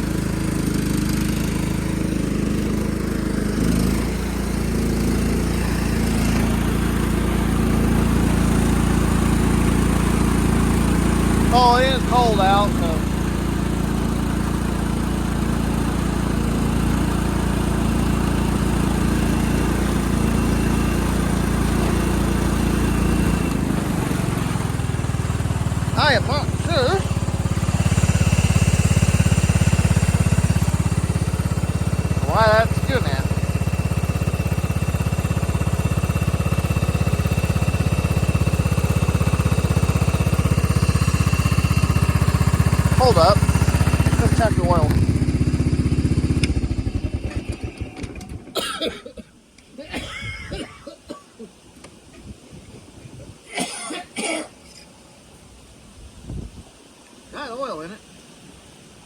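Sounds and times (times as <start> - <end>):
riding mower engine running: 0.0 - 50.8.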